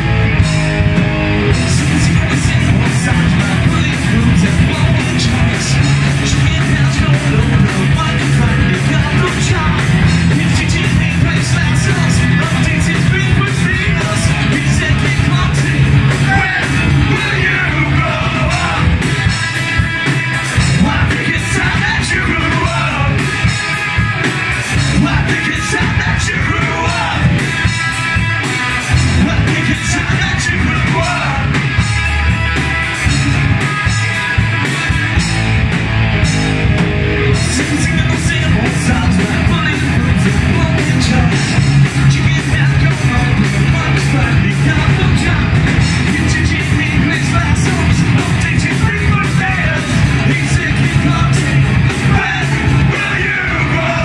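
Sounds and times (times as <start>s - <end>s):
punk rock band playing: 0.0s - 54.0s
vocalist shouting and singing: 1.5s - 31.9s, 33.0s - 34.5s, 37.3s - 54.0s.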